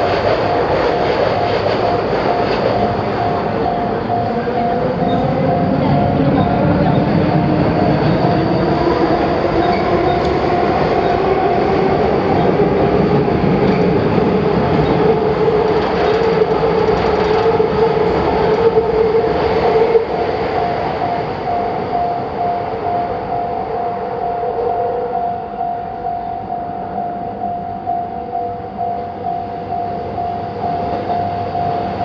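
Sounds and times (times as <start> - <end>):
level-crossing warning bell: 0.0 - 32.0
train running past: 0.0 - 32.0.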